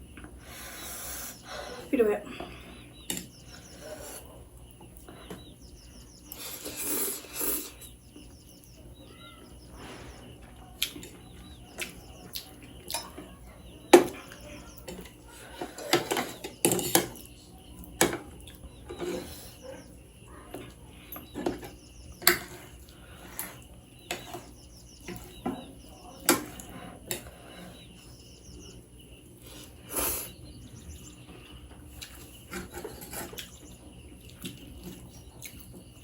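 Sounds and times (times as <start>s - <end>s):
noisy eating: 0.0s - 36.0s.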